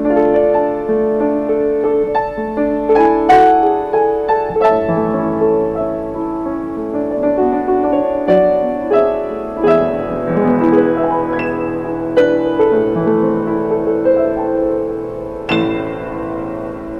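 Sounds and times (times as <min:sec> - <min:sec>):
slow piano chords and melody: 0:00.0 - 0:16.9.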